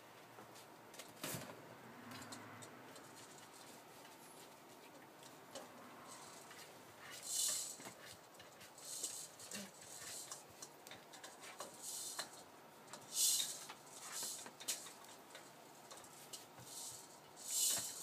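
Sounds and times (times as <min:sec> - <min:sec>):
scraping rustles: 0:02.9 - 0:18.0.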